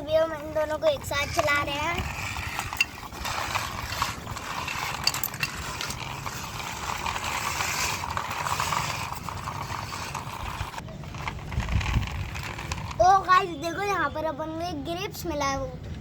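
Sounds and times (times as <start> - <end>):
plastic toy wheels rattling: 0.0 - 13.8.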